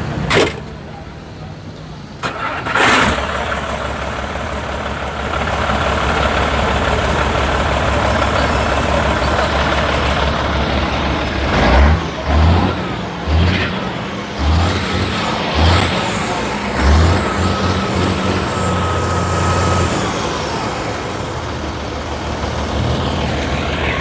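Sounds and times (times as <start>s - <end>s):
diesel truck engine idling and revving: 0.0s - 24.0s.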